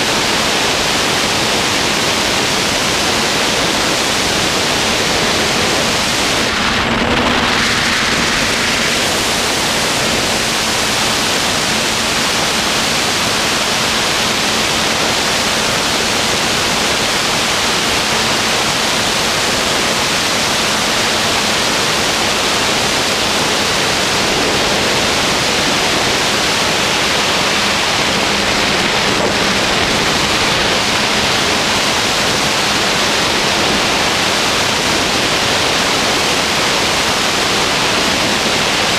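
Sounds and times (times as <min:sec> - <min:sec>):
loud static-like hiss: 0:00.0 - 0:38.9.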